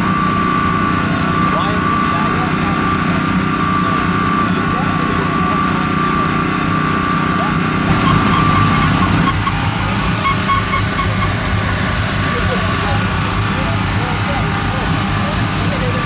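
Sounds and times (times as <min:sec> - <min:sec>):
engine idling with whine: 0:00.0 - 0:16.0.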